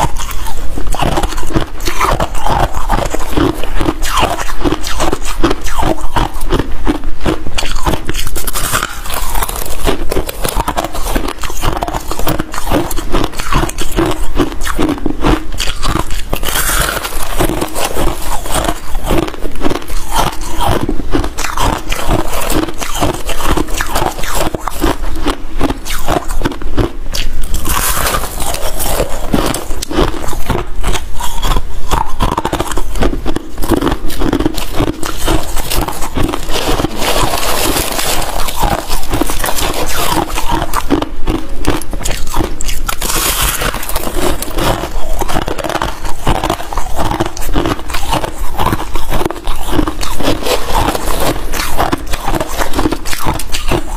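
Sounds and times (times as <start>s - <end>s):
frost being crunched by chewing: 7.6s - 53.9s.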